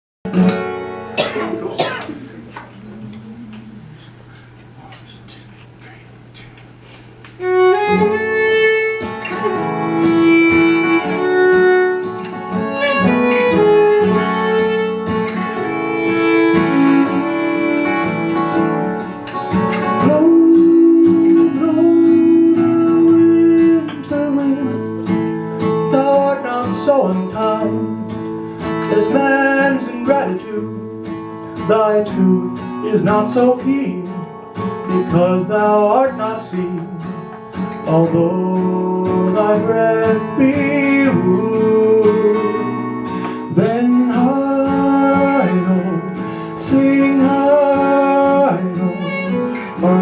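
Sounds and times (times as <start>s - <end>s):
acoustic string music: 0.3s - 4.0s, 5.3s - 50.0s.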